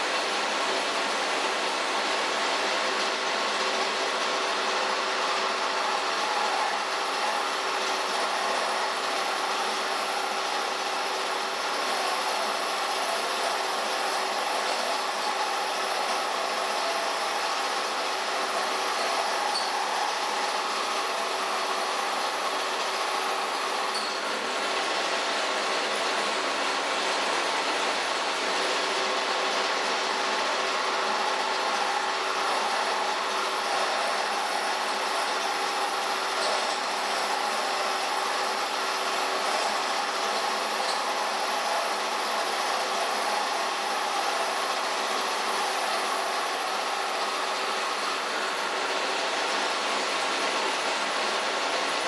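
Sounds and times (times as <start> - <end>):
thin high whine: 0.0 - 52.0.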